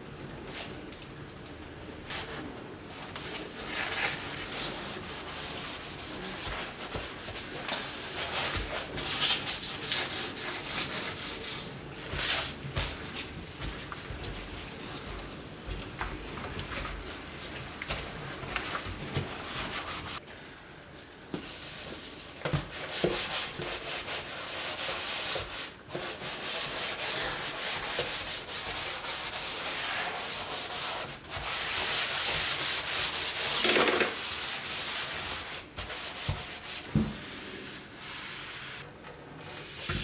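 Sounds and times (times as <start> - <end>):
scrubbing strokes on a surface: 2.1 - 20.2, 21.4 - 40.0.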